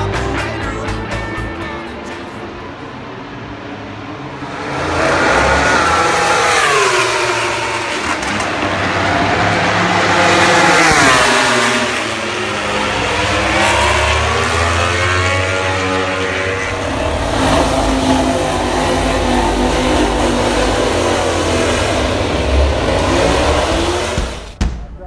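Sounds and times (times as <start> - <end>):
racing motorcycle engines revving: 1.9 - 24.6.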